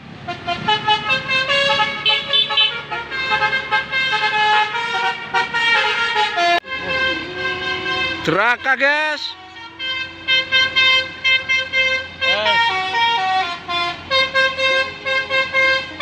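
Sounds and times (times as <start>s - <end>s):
musical bus horn melody: 0.0s - 16.0s
low held horn tone: 0.3s - 16.0s.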